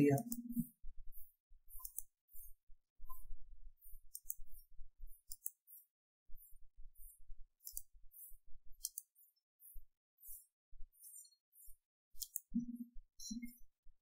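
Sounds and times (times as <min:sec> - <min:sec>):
computer mouse buttons clicking: 0:00.2 - 0:05.8, 0:06.4 - 0:10.4, 0:12.1 - 0:13.6.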